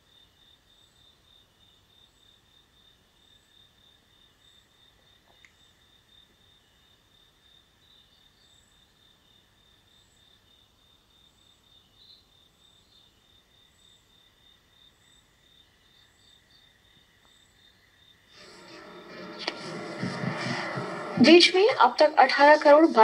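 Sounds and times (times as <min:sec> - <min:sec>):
crickets chirping: 0:00.0 - 0:18.7.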